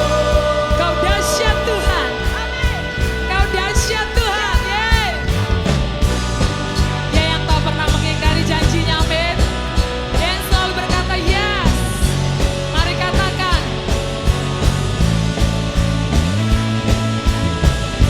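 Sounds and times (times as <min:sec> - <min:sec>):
bass: 0:00.0 - 0:18.0
drum beat: 0:00.0 - 0:18.0.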